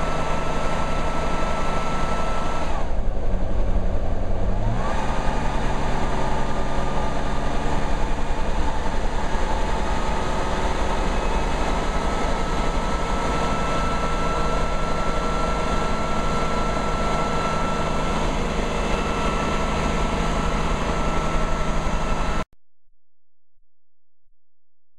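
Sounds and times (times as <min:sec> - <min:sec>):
helicopter engine and rotor: 0:00.0 - 0:04.4, 0:05.2 - 0:22.4.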